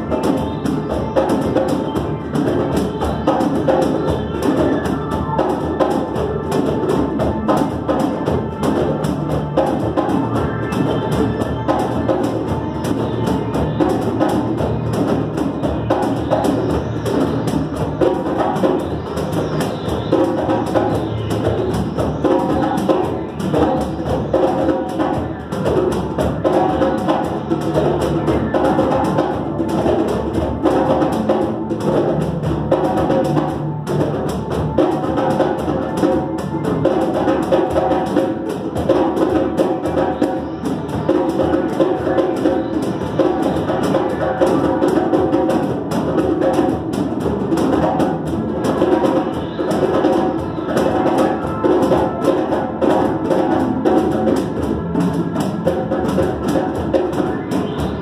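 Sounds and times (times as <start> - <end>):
hand drums playing rhythm: 0.0 - 58.0.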